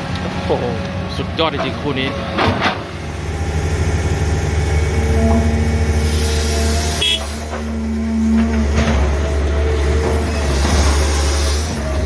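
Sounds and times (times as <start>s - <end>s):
excavator diesel engines: 0.0s - 12.0s.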